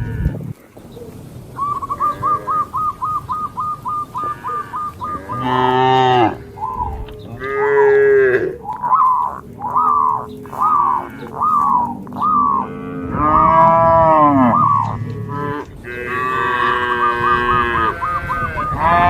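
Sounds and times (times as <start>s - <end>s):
cattle mooing: 0.0s - 0.9s, 1.7s - 19.0s.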